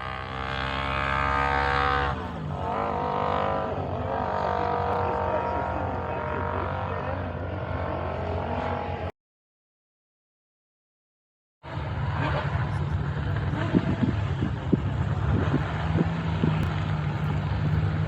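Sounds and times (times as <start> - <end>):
racing engine at high revs: 0.0 - 9.1, 11.7 - 18.0.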